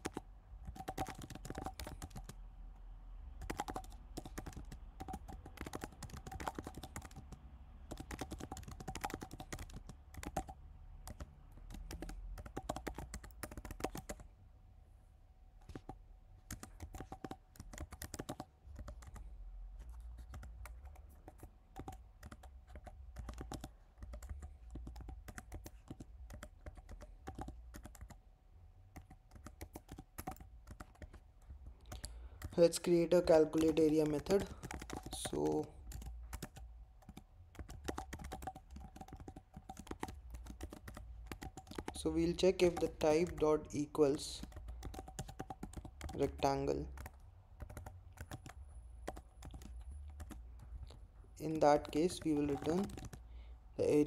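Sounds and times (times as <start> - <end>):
typing on computer keyboard: 0.0 - 2.4, 3.3 - 14.3, 15.6 - 28.2, 28.9 - 54.0.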